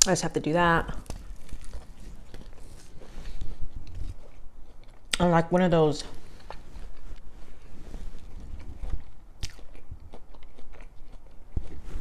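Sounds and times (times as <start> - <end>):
chewing food: 0.4 - 5.2, 6.2 - 12.0.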